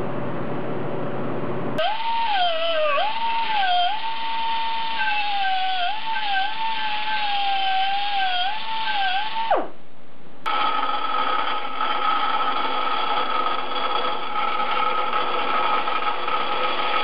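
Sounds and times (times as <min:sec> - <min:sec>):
bandsaw cutting metal: 0:01.8 - 0:09.7, 0:10.5 - 0:17.0
die grinder whining on metal: 0:01.8 - 0:09.7, 0:10.5 - 0:17.0.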